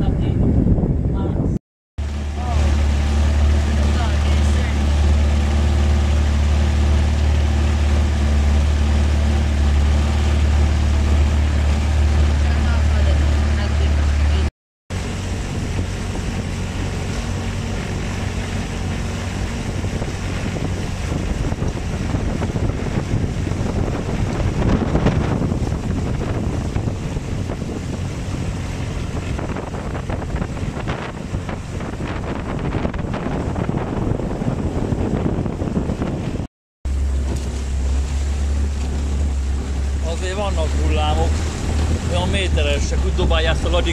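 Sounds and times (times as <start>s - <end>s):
boat engine drone: 0.0s - 43.9s
wind buffeting microphone: 0.0s - 43.9s.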